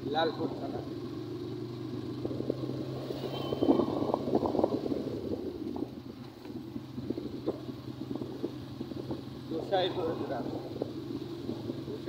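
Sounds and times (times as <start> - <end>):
vehicle road hum: 0.0 - 12.0.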